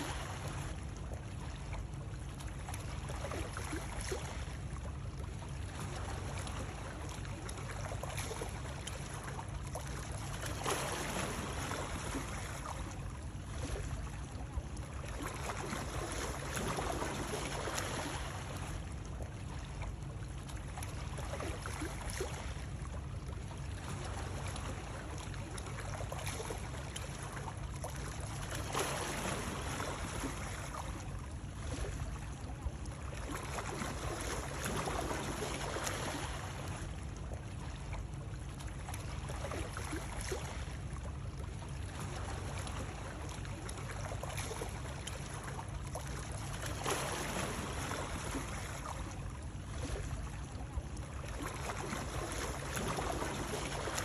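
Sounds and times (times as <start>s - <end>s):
water sloshing: 0.0s - 54.0s.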